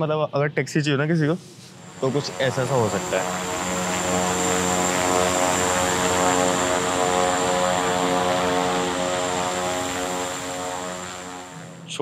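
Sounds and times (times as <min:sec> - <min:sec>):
turboprop plane taxiing: 0:01.7 - 0:11.9.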